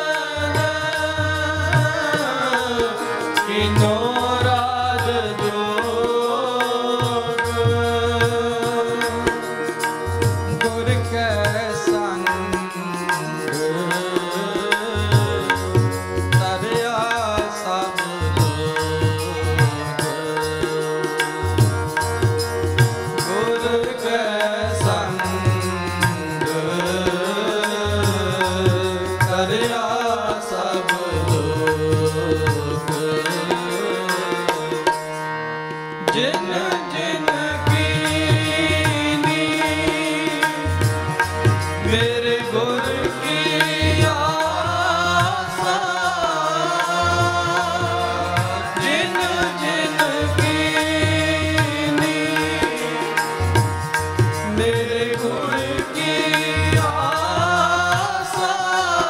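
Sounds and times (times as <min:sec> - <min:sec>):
man singing: 0:00.0 - 0:35.2, 0:35.9 - 0:59.0
harmonium chords: 0:00.0 - 0:59.0
tabla rhythm: 0:00.0 - 0:59.0.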